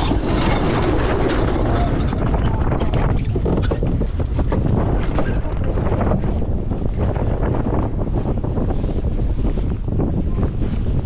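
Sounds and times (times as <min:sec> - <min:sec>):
water rushing around boat: 0:00.0 - 0:11.0
wind buffeting microphone: 0:00.0 - 0:11.0.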